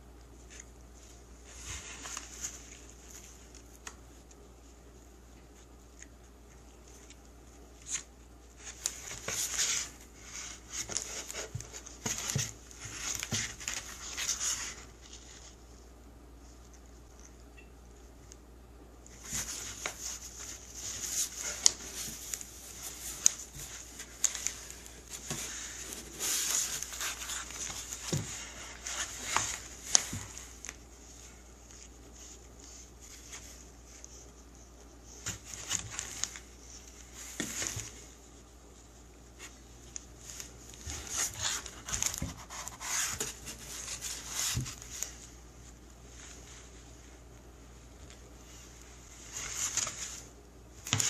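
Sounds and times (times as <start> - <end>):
rustling: 0.0 - 18.4, 19.0 - 51.0.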